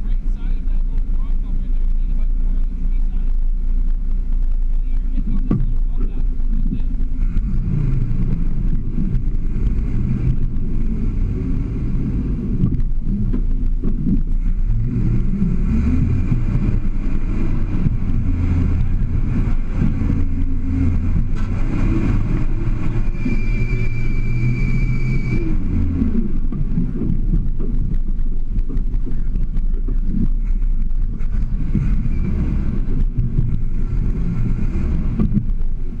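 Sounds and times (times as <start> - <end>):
engine working at low revs: 0.0 - 36.0
thin high steady whine: 0.0 - 36.0.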